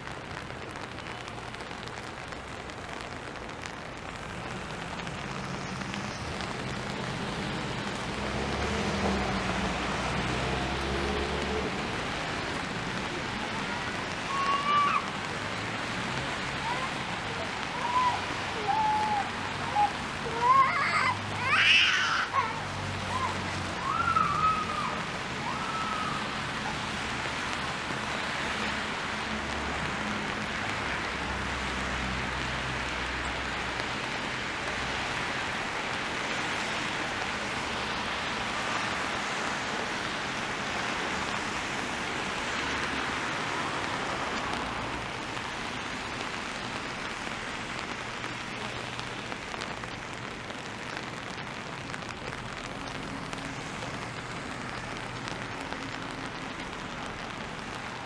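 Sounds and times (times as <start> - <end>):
rain splashing on pavement: 0.0 - 58.0
traffic on wet street: 0.0 - 58.0.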